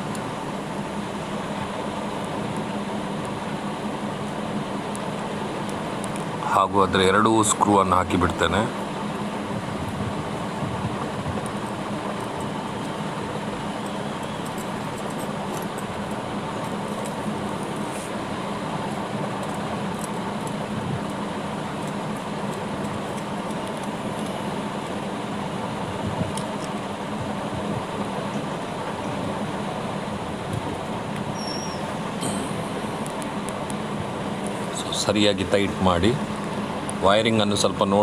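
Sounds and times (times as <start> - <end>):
droning hum and hiss: 0.0 - 38.0.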